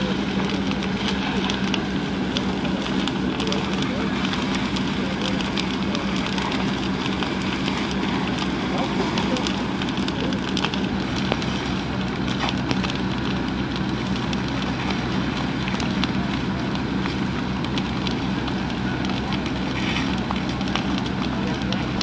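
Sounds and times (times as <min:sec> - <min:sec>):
fire crackling and popping: 0:00.0 - 0:22.0
low engine hum: 0:00.0 - 0:22.0.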